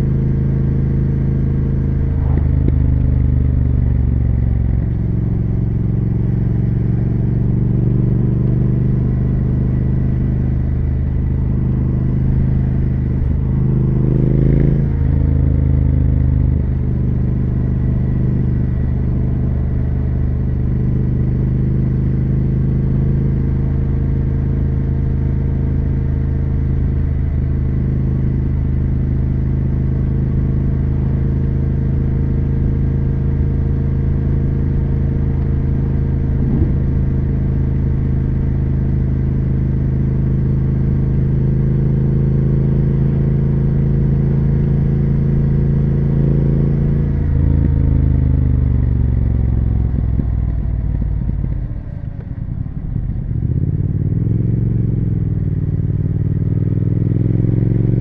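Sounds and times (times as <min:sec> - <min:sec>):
motorcycle engine and exhaust: 0:00.0 - 0:58.0.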